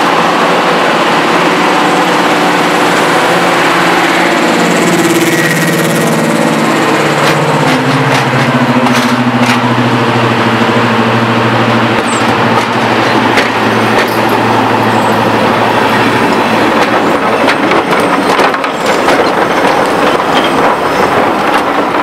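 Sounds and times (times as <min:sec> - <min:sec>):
diesel locomotive engine: 0:00.0 - 0:22.0
train coaches rolling on rails: 0:00.0 - 0:22.0.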